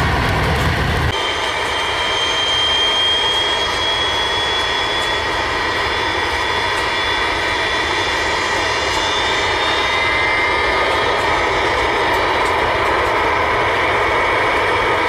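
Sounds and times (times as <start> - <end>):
high engine whine: 0.0 - 15.0
jet engine roar: 0.0 - 15.0.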